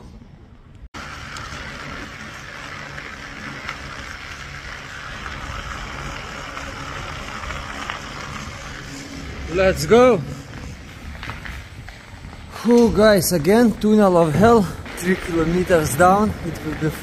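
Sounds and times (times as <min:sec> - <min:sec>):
bicycle tyre and wind noise: 0:00.0 - 0:17.0.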